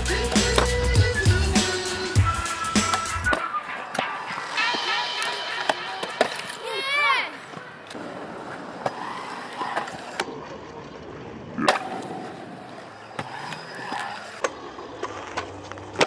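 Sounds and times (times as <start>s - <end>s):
scooter wheels rolling on concrete: 0.0s - 16.0s.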